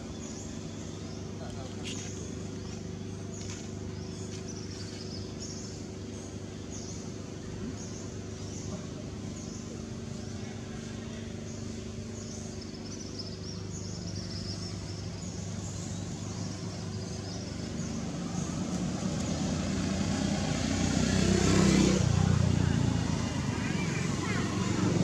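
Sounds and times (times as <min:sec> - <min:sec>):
motor engine humming: 0:00.0 - 0:25.0.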